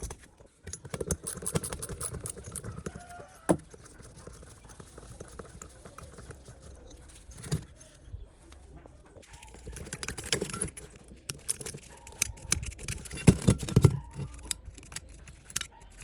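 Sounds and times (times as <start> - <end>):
small parts clattering: 0.0 - 8.1, 9.2 - 16.0.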